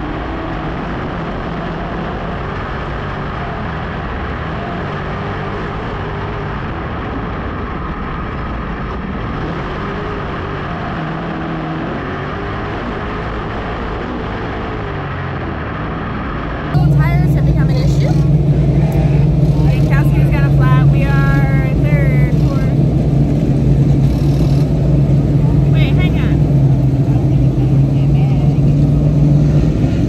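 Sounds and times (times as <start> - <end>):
race car engine running hard: 0.0 - 30.0.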